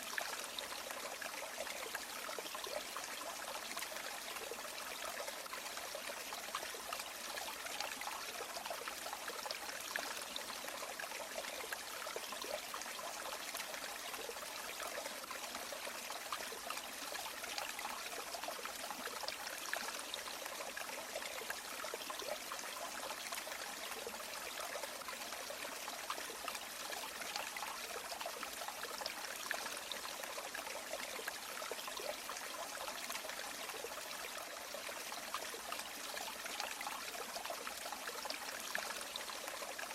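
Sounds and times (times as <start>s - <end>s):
river water rushing and trickling: 0.0s - 39.9s.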